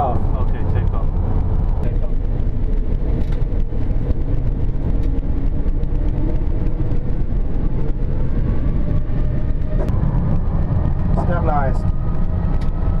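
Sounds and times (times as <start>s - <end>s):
faint rising engine whine: 0.0s - 13.0s
jet engine low rumble: 0.0s - 13.0s.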